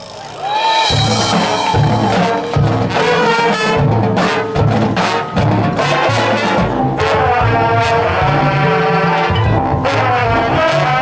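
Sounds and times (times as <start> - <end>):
brass chords: 0.4 - 11.0
drumline playing: 0.4 - 11.0.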